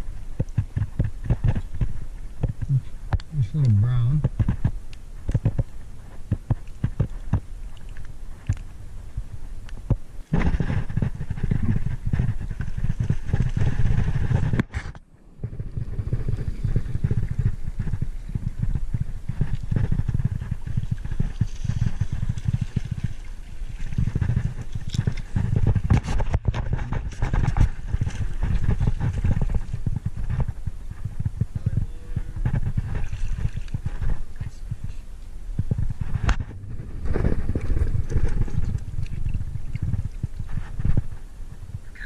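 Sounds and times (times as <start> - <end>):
microphone jostled and rubbed: 0.0 - 42.0.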